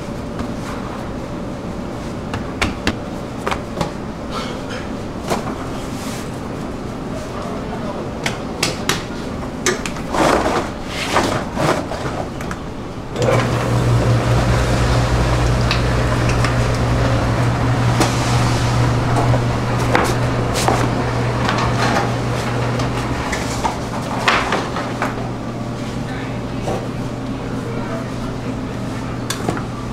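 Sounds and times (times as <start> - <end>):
dough sheeter motor humming: 0.0 - 29.9.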